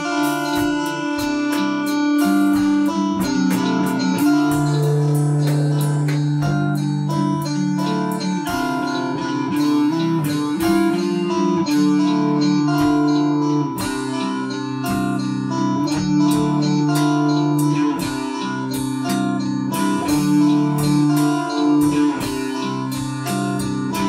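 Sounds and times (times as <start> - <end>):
plucked instrumental music: 0.0 - 24.0.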